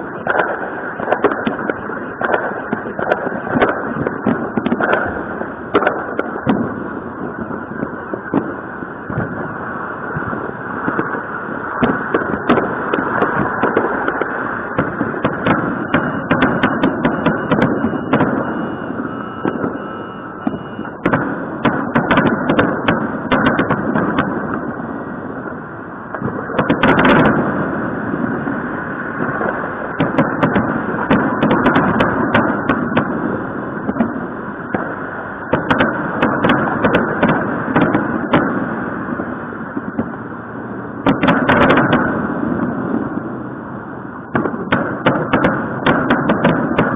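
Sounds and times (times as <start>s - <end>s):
distant fireworks rumble: 0.0s - 46.9s
fireworks bangs and crackles: 0.0s - 46.9s.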